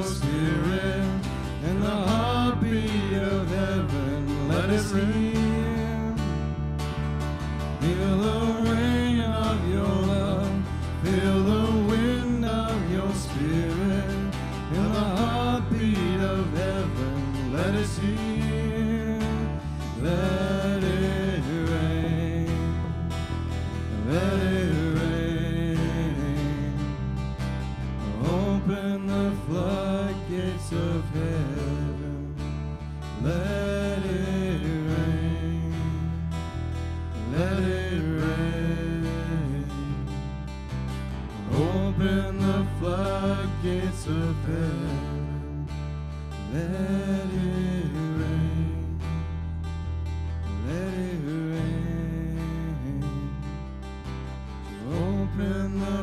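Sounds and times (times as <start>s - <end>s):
person singing: 0.0s - 6.6s, 7.5s - 27.2s, 28.0s - 36.5s, 37.2s - 40.4s, 41.4s - 45.7s, 46.4s - 49.2s, 50.5s - 53.6s, 54.7s - 56.0s
bass guitar held notes: 0.0s - 56.0s
strummed acoustic guitar: 0.0s - 56.0s.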